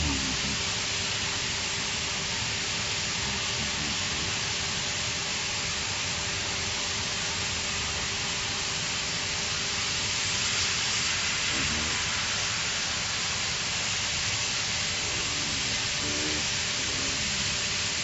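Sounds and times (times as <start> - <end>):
plasma torch hissing: 0.0 - 18.0.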